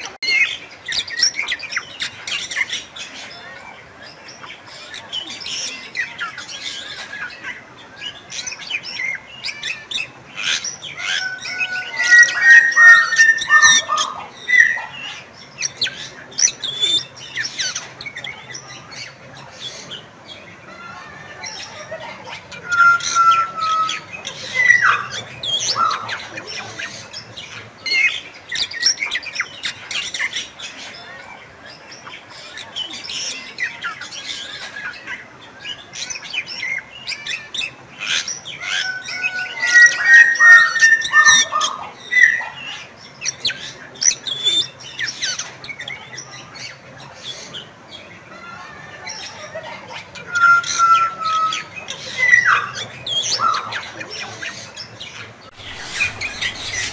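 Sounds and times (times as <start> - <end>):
bird squawking and chattering: 4.3 - 31.2, 32.0 - 56.9.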